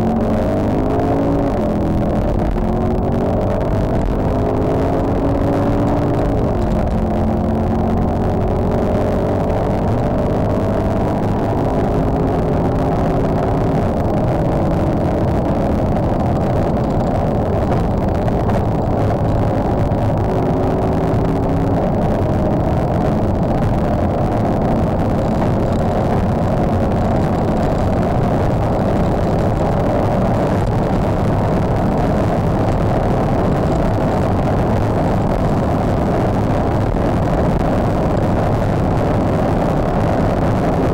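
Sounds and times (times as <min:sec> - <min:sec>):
car engine accelerating: 0:00.0 - 0:40.9
road and wind noise: 0:00.0 - 0:40.9.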